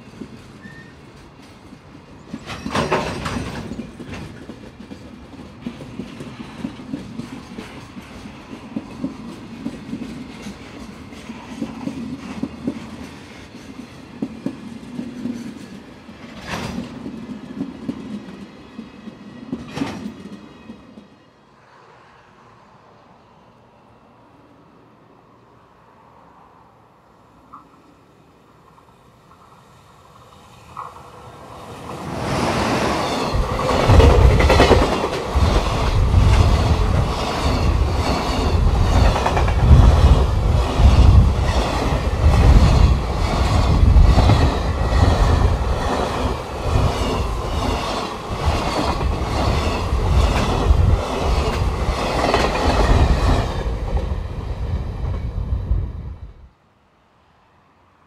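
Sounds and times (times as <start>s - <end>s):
train wheels clickety-clack: 0.0s - 21.2s, 28.6s - 55.4s
electric locomotive approaching: 0.0s - 56.6s.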